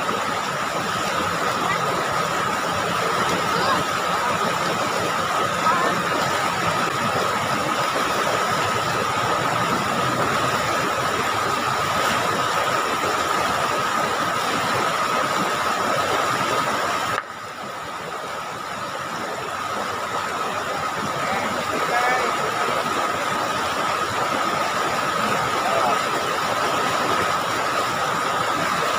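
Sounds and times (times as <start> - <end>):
river water rushing over rapids: 0.0 - 28.9.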